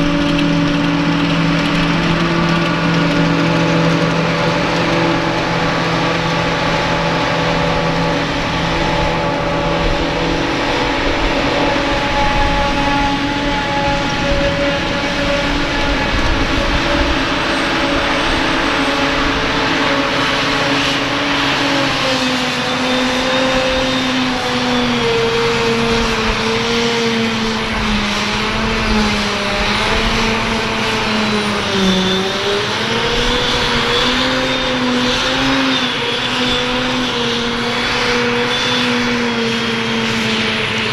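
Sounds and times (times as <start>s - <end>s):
heavy diesel engine: 0.0s - 40.9s.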